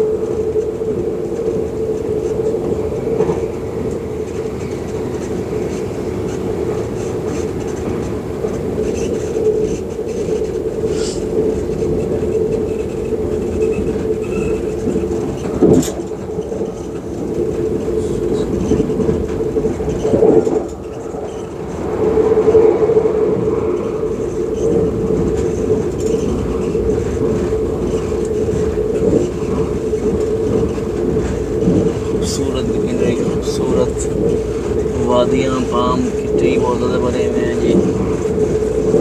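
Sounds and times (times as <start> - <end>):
constant hum: 0.0 - 39.0
train rumbling: 0.0 - 39.0.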